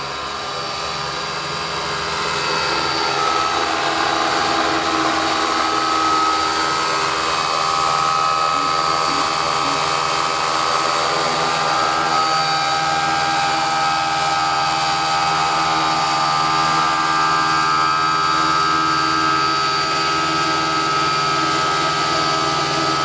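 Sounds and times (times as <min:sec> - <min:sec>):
high whine of drive: 0:00.0 - 0:23.0
model helicopter rotor noise: 0:00.0 - 0:23.0.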